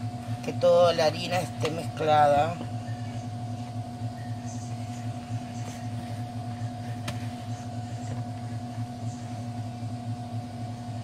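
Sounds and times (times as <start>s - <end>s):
kitchen appliance humming: 0.0s - 11.0s.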